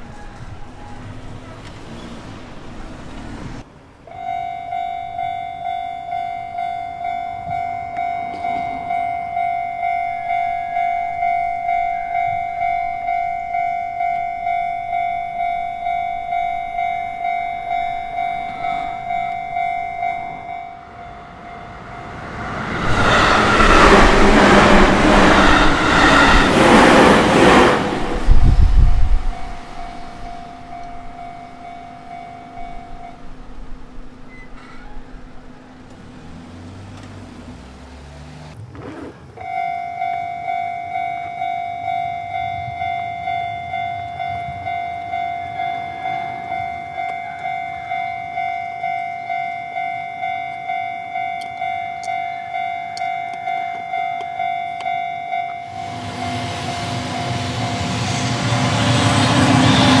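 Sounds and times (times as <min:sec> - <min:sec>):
freight train rumble: 0:00.0 - 0:38.6, 0:40.1 - 1:00.0
level crossing warning bell: 0:04.0 - 0:26.8, 0:27.4 - 0:35.9, 0:39.4 - 0:58.8.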